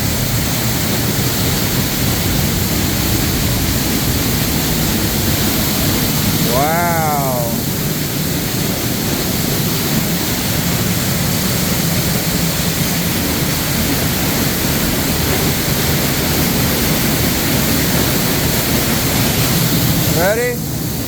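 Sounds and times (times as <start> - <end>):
waterfall pouring: 0.0 - 21.0.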